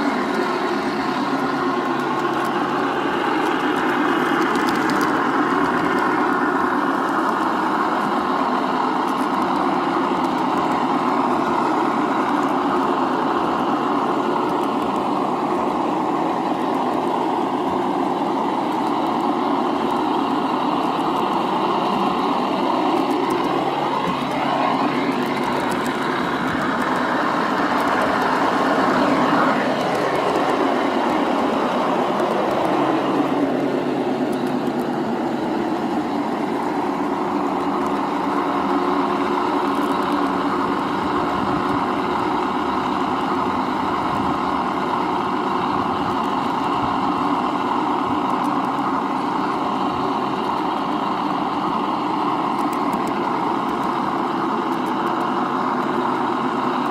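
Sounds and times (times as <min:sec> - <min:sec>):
model diesel engine sound from speaker: 0:00.0 - 0:56.9
model wheels running on track: 0:00.0 - 0:56.9.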